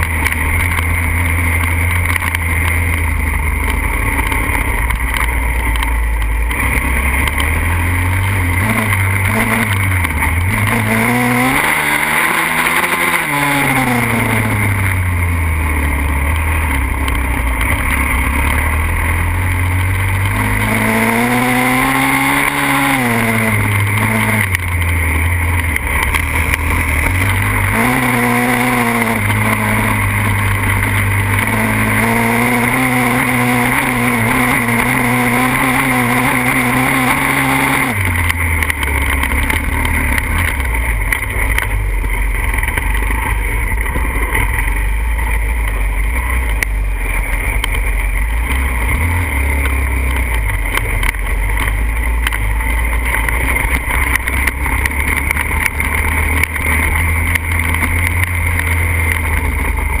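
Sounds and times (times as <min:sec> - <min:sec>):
motorbike engine revving: 0:00.0 - 1:00.0.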